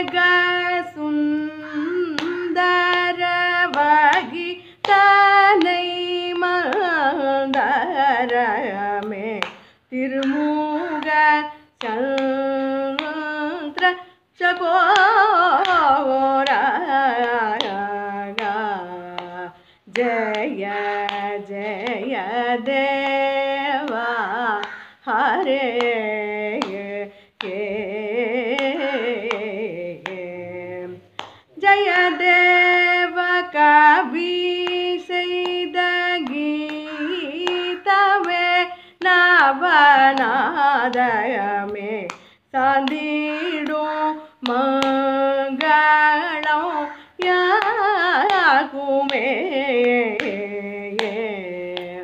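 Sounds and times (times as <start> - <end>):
woman singing: 0.0 - 52.0.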